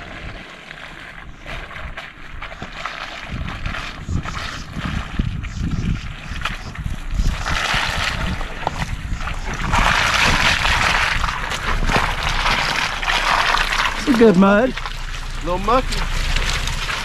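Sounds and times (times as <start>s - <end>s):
low bumps and rumble: 0.0s - 17.0s
tyres splashing through mud: 0.0s - 17.0s.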